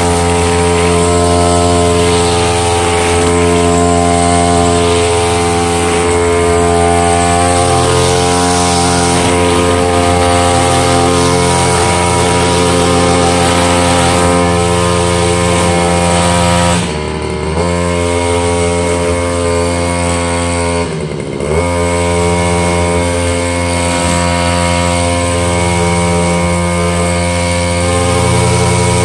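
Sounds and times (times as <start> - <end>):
brush cutter engine at high revs: 0.0 - 29.0.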